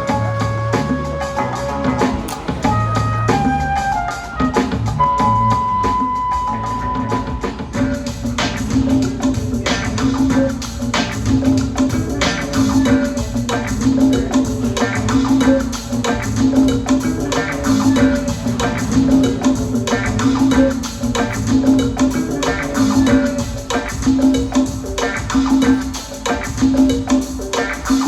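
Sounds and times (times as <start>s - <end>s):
latin music with hand percussion: 0.0s - 28.0s
repeating bass line: 0.0s - 28.0s.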